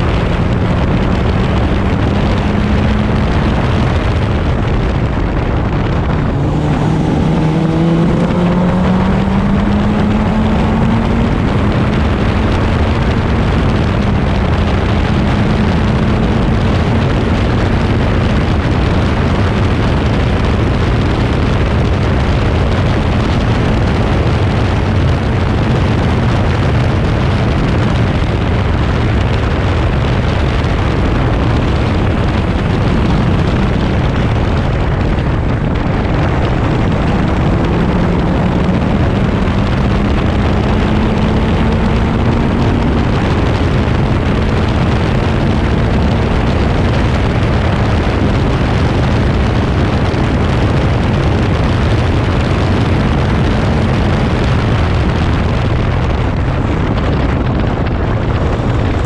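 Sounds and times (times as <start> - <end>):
racing car engine: 0.0 - 59.0
wind noise on microphone: 0.0 - 59.0.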